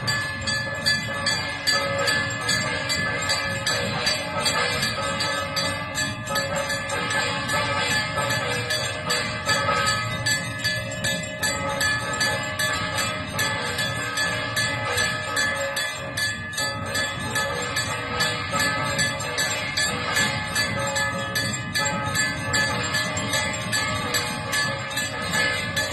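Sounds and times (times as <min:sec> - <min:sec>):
temple bells ringing: 0:00.0 - 0:25.9.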